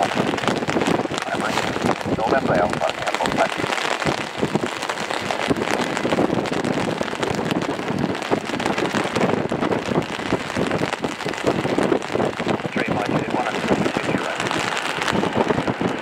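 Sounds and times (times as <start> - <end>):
heavy rain on umbrella: 0.0 - 16.0.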